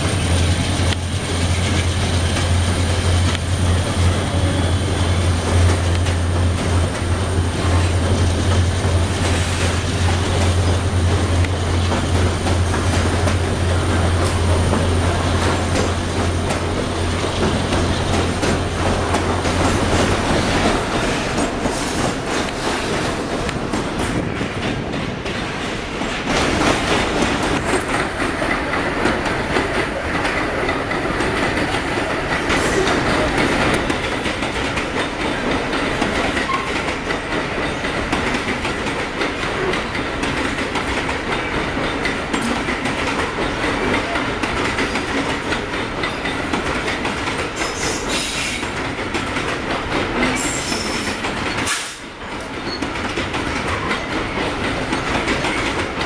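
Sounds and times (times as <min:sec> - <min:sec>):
train wheels clattering over rail joints: 0:00.0 - 0:56.0.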